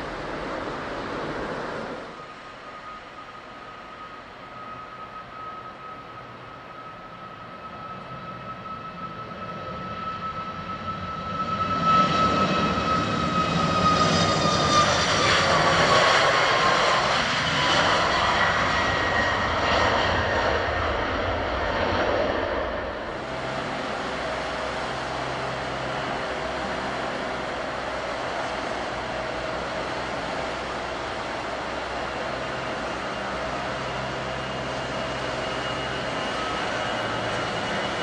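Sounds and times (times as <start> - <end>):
steady jet noise: 0.0 - 9.4, 10.1 - 38.0
jet engines at takeoff: 0.0 - 38.0.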